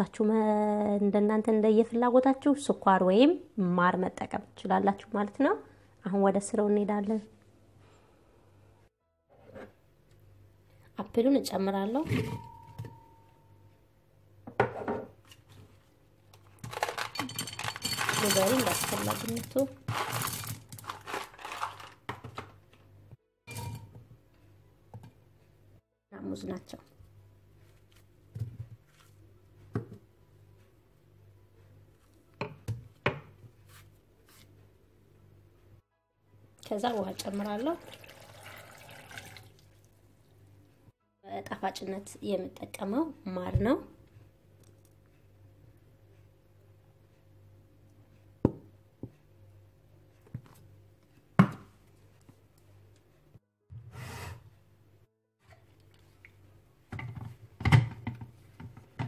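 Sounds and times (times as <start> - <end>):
low steady hum: 0.0 - 53.4.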